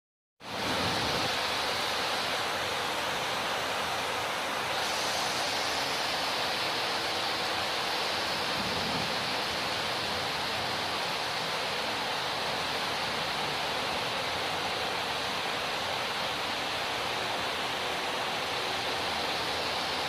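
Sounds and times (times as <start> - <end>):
heavy rain downpour: 0.4 - 20.0
running water: 0.4 - 20.0.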